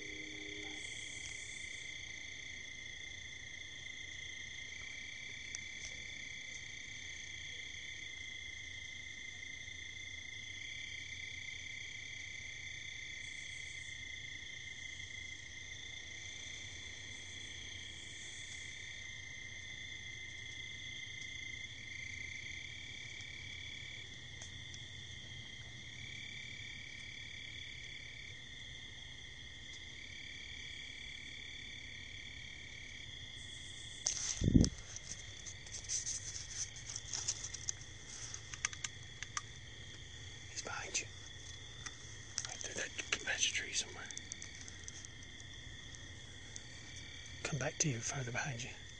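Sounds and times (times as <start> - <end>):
crickets trilling: 0.0 - 48.9.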